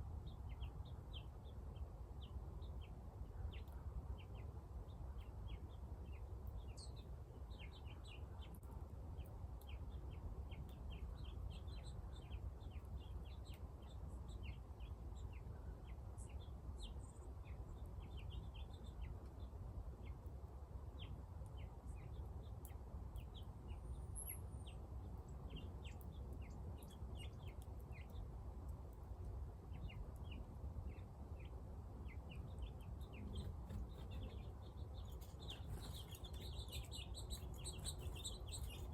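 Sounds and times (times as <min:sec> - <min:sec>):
small birds chirping: 0:00.0 - 0:38.9
steady low rumble: 0:00.0 - 0:38.9.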